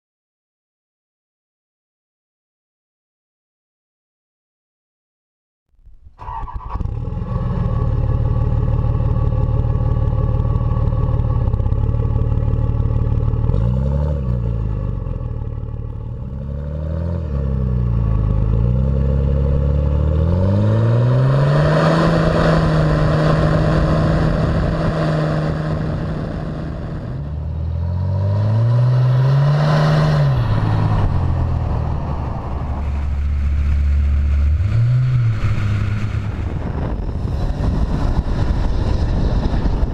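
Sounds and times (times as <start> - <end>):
truck engine idling and revving: 5.8 - 39.9.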